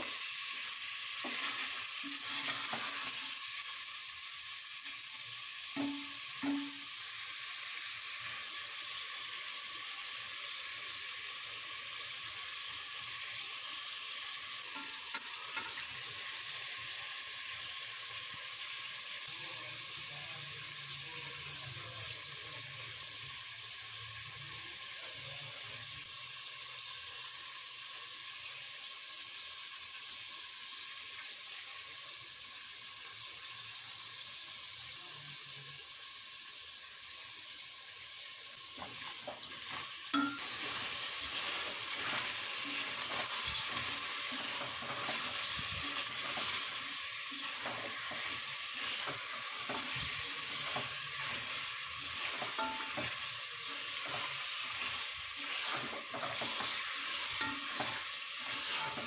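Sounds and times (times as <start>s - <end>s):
meat sizzling in oil: 0.0s - 59.0s.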